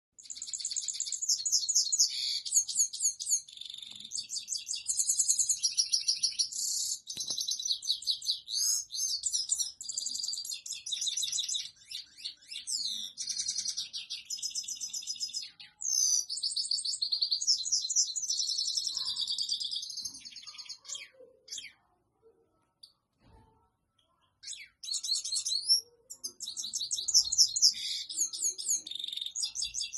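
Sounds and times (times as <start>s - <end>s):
finch twittering song: 0.2s - 21.9s, 24.2s - 29.9s.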